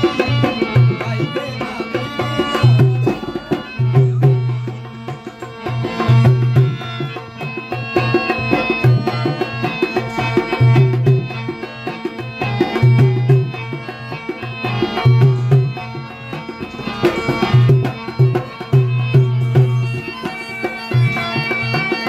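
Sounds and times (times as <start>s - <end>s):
folk melody: 0.0s - 22.0s
hand drum beating rhythm: 0.0s - 22.0s.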